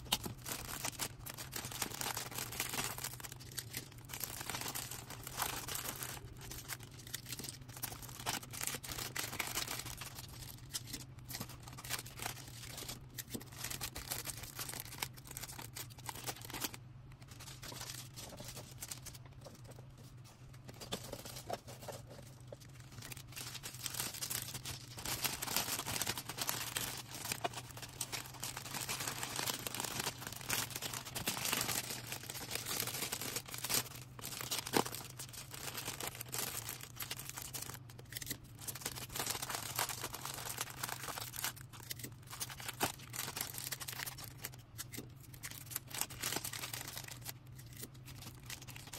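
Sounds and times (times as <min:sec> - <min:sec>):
packaging crinkling and tearing: 0:00.0 - 0:48.9
steady low hum: 0:00.0 - 0:48.9.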